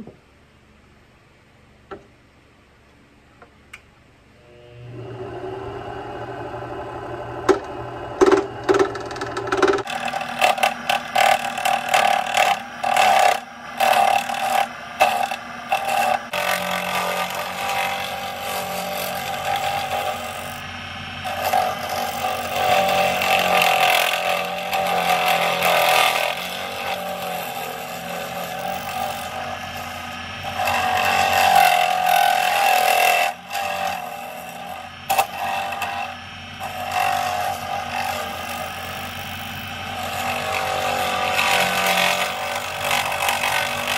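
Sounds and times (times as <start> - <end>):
lathe motor running: 4.4 - 43.9
tool cutting plastic: 7.5 - 43.9.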